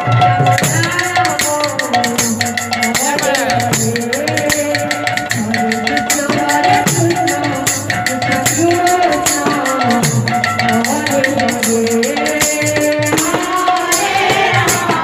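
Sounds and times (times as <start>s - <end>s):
barrel drum beat: 0.0s - 15.0s
woman singing into microphone: 0.0s - 15.0s
jingling hand cymbals: 0.4s - 15.0s.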